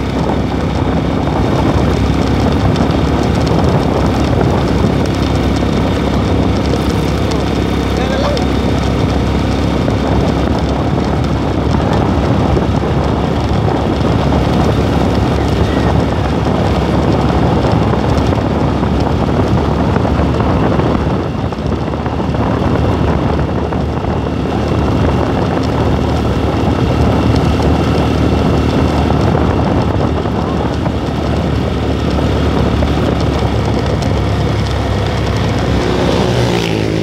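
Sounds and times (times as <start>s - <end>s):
motorcycle engine running: 0.0s - 37.0s
wind rush on microphone: 0.0s - 37.0s.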